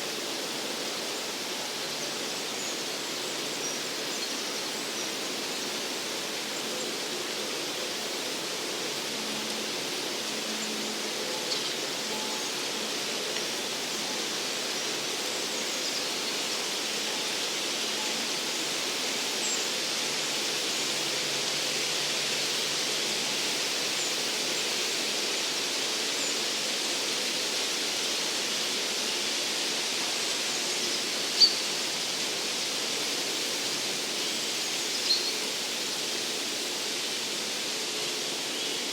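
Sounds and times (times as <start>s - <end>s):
steady rushing hiss: 0.0s - 38.9s.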